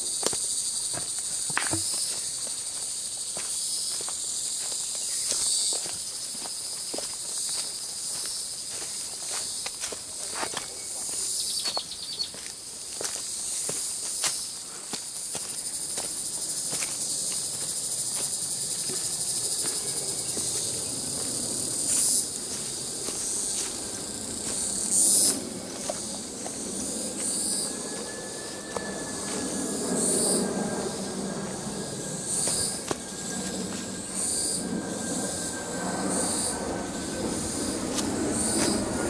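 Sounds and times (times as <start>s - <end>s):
insects buzzing: 0.0s - 39.0s
footsteps crunching on dry leaves: 0.1s - 39.0s.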